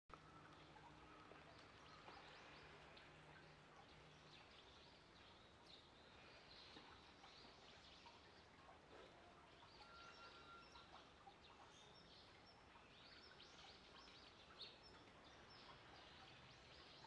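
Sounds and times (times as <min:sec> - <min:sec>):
faint bird chirps: 0:00.1 - 0:17.0.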